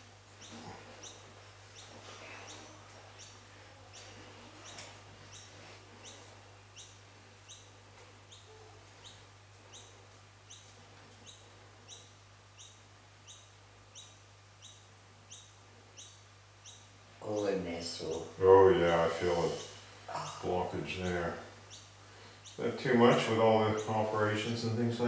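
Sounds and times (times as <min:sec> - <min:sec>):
bird chirping: 0:00.0 - 0:25.0
steady low hum: 0:00.0 - 0:25.0.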